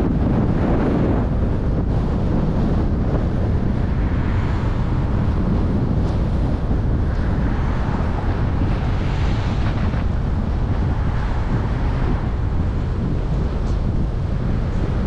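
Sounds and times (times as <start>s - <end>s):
tyre and road noise: 0.0s - 15.0s
wind buffeting microphone: 0.0s - 15.0s.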